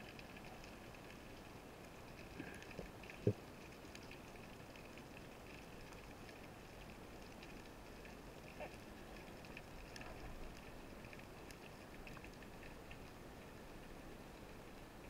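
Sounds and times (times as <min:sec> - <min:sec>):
small underwater clicks and crackles: 0:00.0 - 0:15.0.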